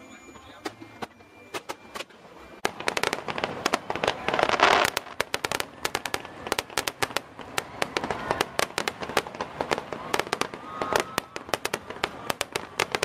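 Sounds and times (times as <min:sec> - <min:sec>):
fireworks popping and banging: 0:00.5 - 0:13.0.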